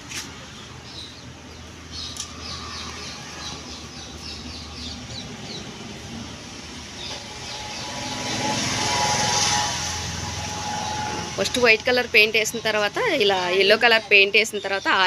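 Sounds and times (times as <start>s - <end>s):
small birds chirping: 0.0s - 9.7s, 10.5s - 15.0s.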